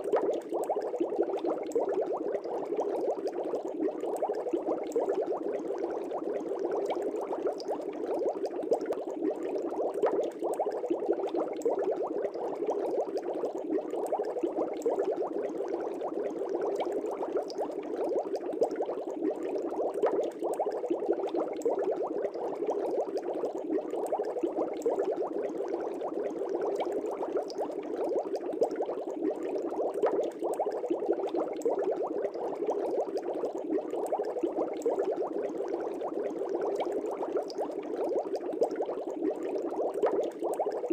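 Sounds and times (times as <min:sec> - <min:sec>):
aquarium air bubbles burbling: 0:00.0 - 0:40.9.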